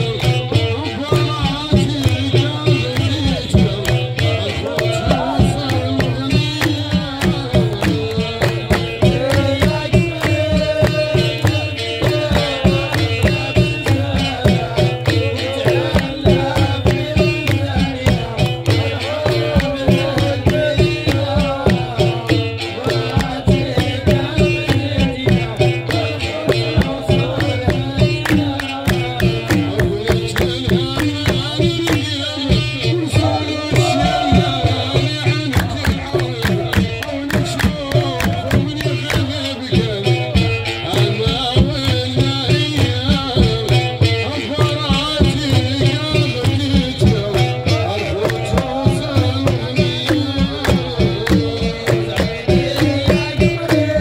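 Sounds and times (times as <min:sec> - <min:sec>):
group singing: 0:00.0 - 0:54.0
hand drums: 0:00.0 - 0:54.0
handclapping: 0:00.0 - 0:54.0.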